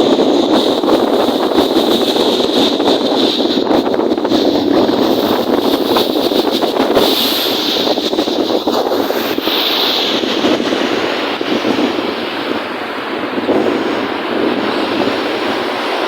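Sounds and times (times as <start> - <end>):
lake waves: 0.0 - 16.0
wind buffeting microphone: 0.0 - 16.0
wind rushing: 0.0 - 16.0.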